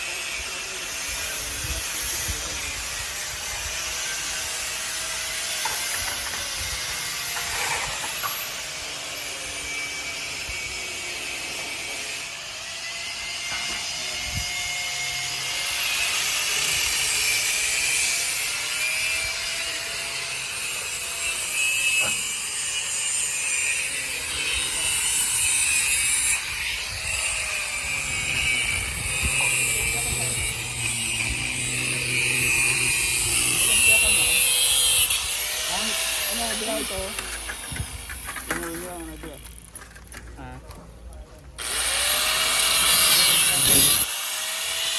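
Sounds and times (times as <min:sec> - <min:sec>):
abrasive power tool rasping on steel: 0:00.0 - 0:40.0, 0:41.6 - 0:44.9.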